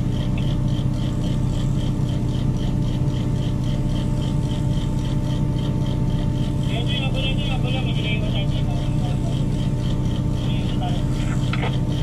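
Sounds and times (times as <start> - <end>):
crane diesel engine humming: 0.0 - 12.0.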